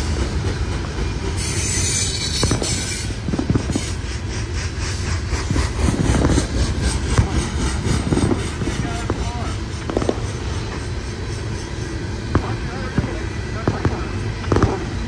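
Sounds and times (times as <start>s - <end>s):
low train rumble: 0.0s - 15.0s
train wheels clattering over rails: 0.0s - 15.0s
high wheel squeal: 0.9s - 13.6s.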